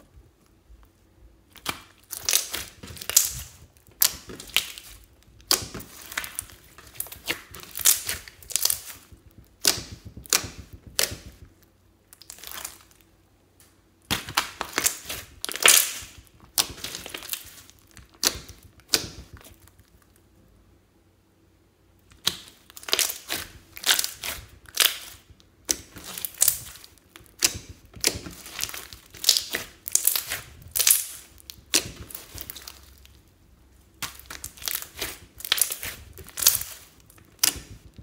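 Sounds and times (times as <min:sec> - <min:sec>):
slime squelching and crackling: 0:01.4 - 0:13.2, 0:14.0 - 0:20.3, 0:22.0 - 0:38.0.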